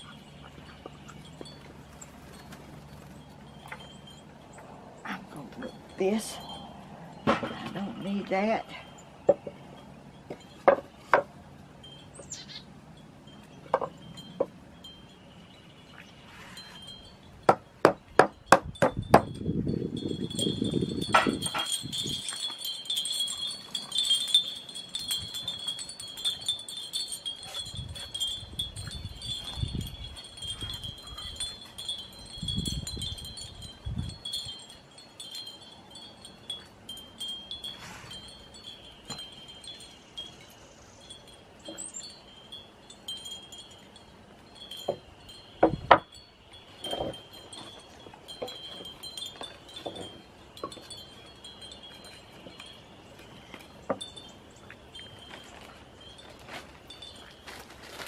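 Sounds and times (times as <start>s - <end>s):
wind chimes tinkling: 0.0s - 58.0s.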